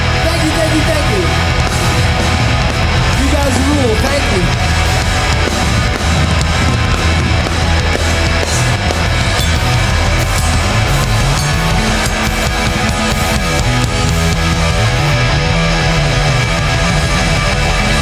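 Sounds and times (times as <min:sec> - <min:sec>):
distorted electric guitars: 0:00.0 - 0:18.0
pounding drum kit: 0:00.0 - 0:18.0
punk band playing live: 0:00.0 - 0:18.0.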